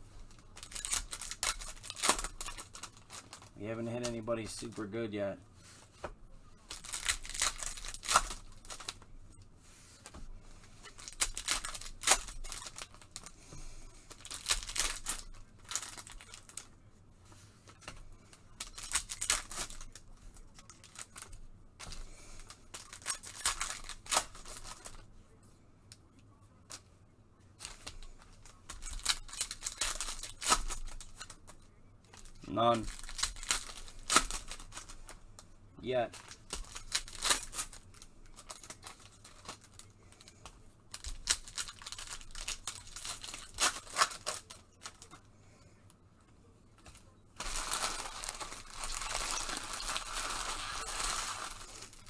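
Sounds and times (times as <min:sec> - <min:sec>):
handling of cards: 0:00.0 - 0:25.1, 0:27.6 - 0:52.0
plastic wrappers tearing and crinkling: 0:00.2 - 0:05.0, 0:06.6 - 0:09.1, 0:10.7 - 0:16.7, 0:17.7 - 0:25.0, 0:27.6 - 0:35.2, 0:35.9 - 0:45.2, 0:46.8 - 0:52.0.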